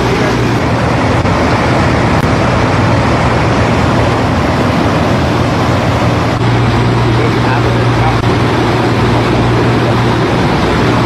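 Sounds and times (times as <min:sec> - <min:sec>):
boat engines droning: 0:00.0 - 0:11.0
propeller-churned water rushing: 0:00.0 - 0:11.0.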